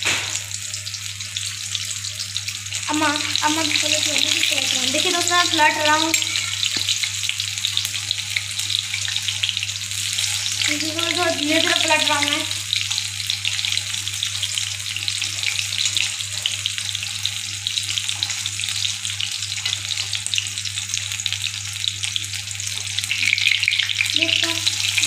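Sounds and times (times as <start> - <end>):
deep-frying sizzle and crackle: 0.0 - 25.0.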